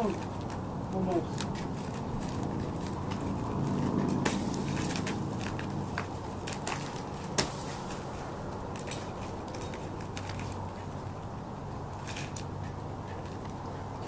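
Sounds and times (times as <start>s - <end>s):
sharp wood crack: 0.0s - 11.3s
dry wood crackling and crunching: 0.0s - 14.0s.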